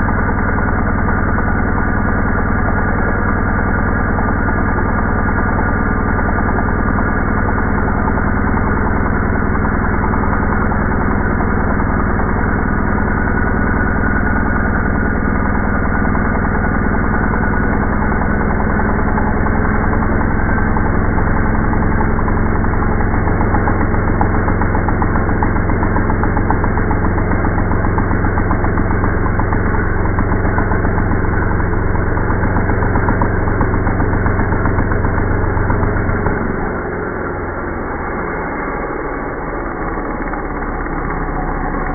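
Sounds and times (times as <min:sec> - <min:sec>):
two-stroke engine drill running: 0:00.0 - 0:41.9.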